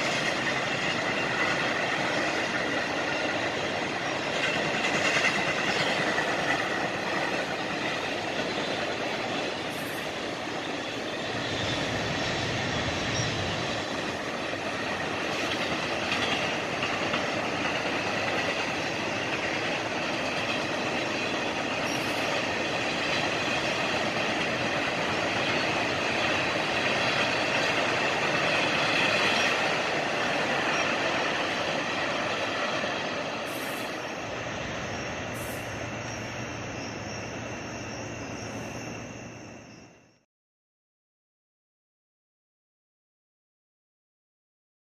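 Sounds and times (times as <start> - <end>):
freight train wheels rumbling: 0.0 - 40.2.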